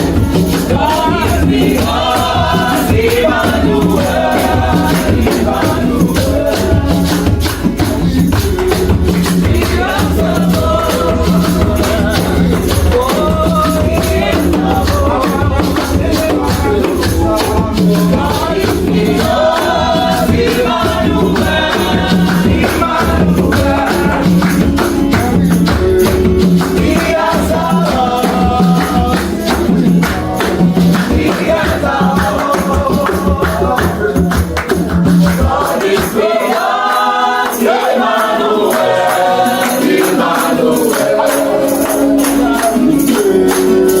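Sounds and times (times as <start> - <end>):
shaking percussion: 0.0 - 44.0
voices singing: 0.0 - 44.0.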